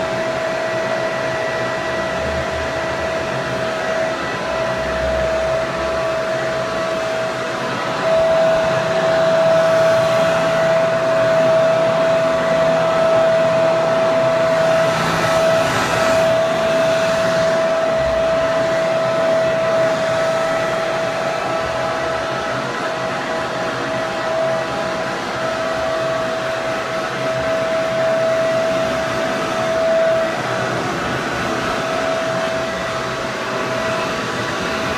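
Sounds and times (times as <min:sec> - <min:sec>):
hair dryer running: 0:00.0 - 0:34.9.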